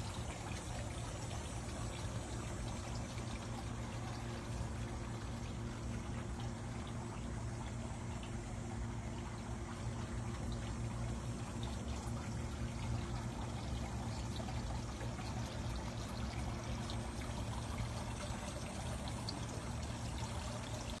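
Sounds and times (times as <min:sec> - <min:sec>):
fountain water pouring: 0:00.0 - 0:21.0.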